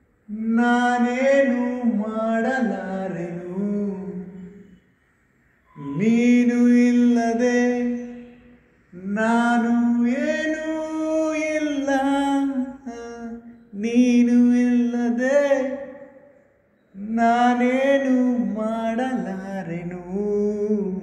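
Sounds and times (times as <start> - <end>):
person singing a hymn unaccompanied: 0.0 - 4.6, 5.8 - 16.2, 17.0 - 21.0.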